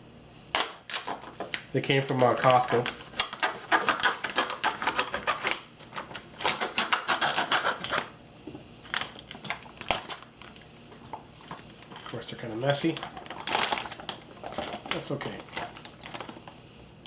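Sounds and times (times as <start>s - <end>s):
plastic packaging crinkling: 0.6s - 8.1s, 8.8s - 16.6s.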